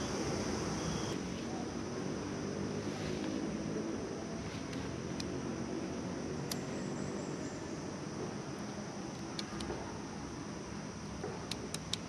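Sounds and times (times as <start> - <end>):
outdoor rumble and hiss: 0.0 - 12.0.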